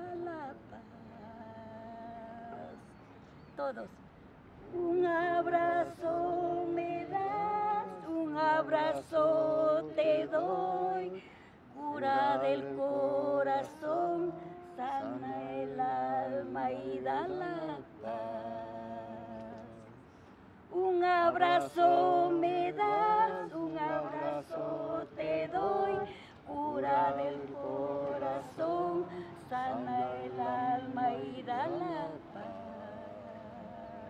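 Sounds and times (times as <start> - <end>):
woman singing unaccompanied: 0.0 - 2.9, 4.6 - 19.8, 20.7 - 34.0.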